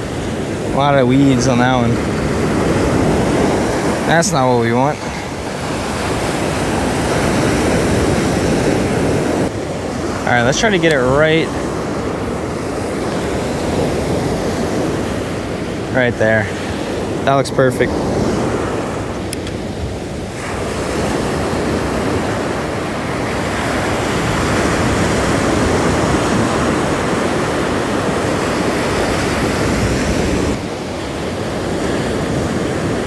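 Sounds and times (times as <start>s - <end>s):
ocean surf breaking on beach: 0.0s - 33.0s.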